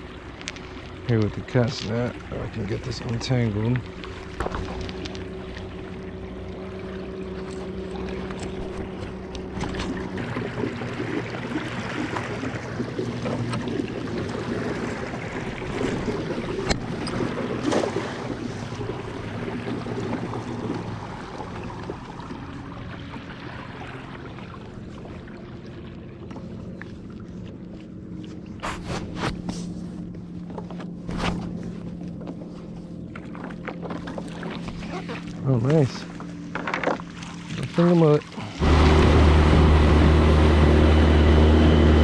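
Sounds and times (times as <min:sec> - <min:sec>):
boat motor humming: 0:00.0 - 0:42.0
water noise: 0:00.0 - 0:42.0.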